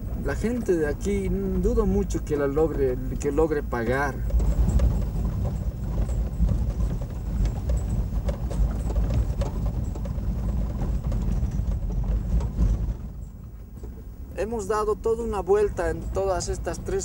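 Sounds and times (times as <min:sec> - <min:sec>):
low engine and road rumble: 0:00.0 - 0:17.0
vehicle body rattling over bumps: 0:00.0 - 0:17.0.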